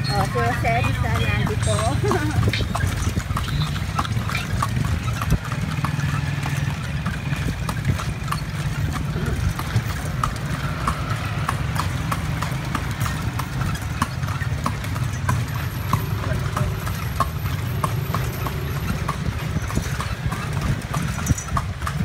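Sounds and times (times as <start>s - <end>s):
carriage rumbling: 0.0s - 22.0s
horse hooves clip-clopping: 0.0s - 22.0s.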